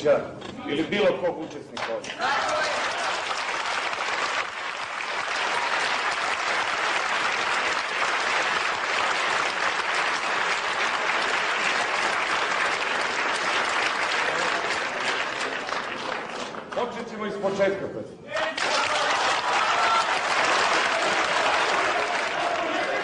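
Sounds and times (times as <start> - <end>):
audience applauding: 2.0 - 17.0, 18.3 - 23.0.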